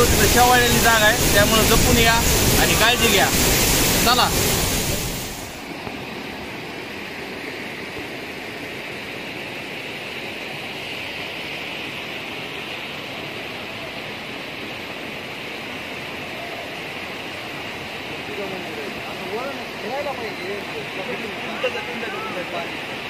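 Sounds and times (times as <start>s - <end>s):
stream rushing over stones: 0.0s - 23.0s.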